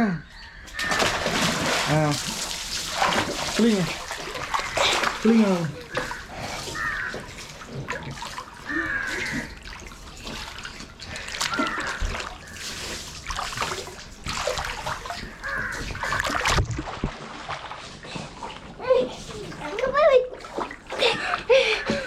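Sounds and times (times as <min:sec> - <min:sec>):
water splashing in pool: 0:00.7 - 0:22.0.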